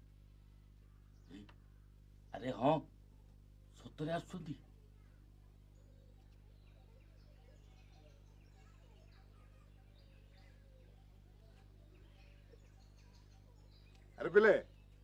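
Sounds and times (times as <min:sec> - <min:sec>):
faint bird chirps: 0:00.0 - 0:15.0
low background hum: 0:00.0 - 0:15.0.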